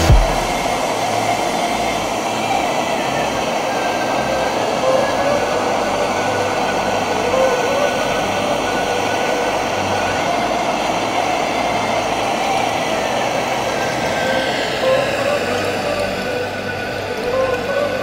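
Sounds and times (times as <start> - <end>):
wavering whistle-like tones: 0.0 - 18.0.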